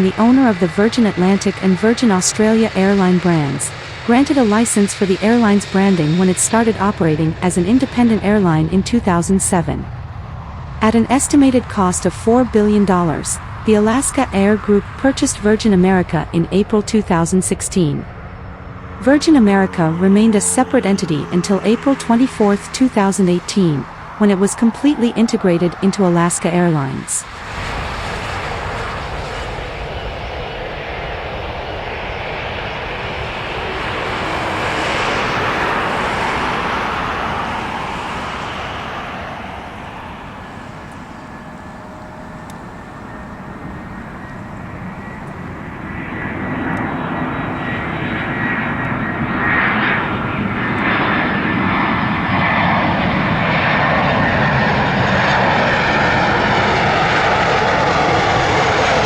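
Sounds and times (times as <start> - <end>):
high engine whine: 0.0 - 59.0
jet engines roaring: 0.0 - 59.0.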